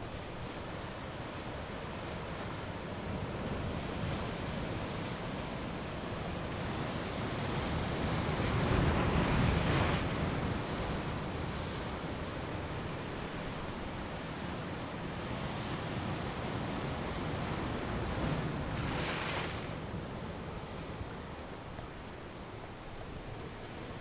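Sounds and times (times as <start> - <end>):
ocean waves on rocky shore: 0.0 - 24.0.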